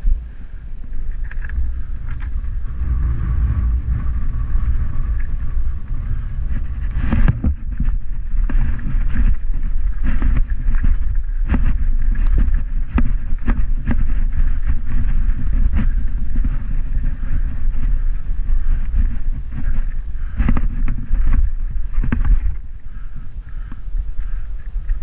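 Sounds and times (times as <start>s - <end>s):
bike rattling and knocking: 0.0s - 25.0s
wind rushing over microphone: 0.0s - 25.0s.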